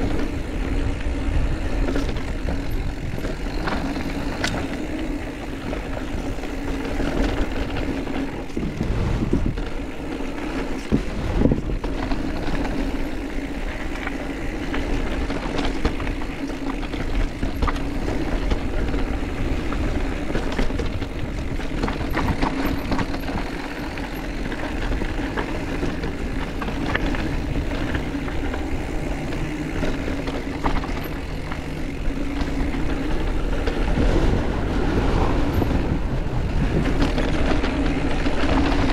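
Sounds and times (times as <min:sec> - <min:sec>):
bike rolling and rattling: 0:00.0 - 0:38.9.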